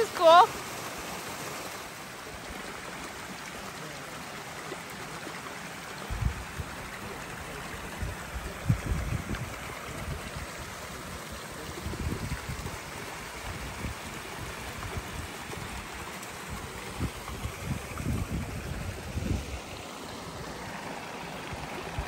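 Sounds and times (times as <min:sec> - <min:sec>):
creek water running: 0:00.0 - 0:22.0.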